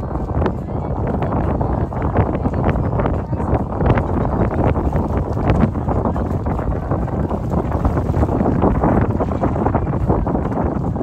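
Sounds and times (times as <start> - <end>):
boat motor: 0.0 - 11.0
water running: 0.0 - 11.0
wind buffeting the microphone: 0.0 - 11.0.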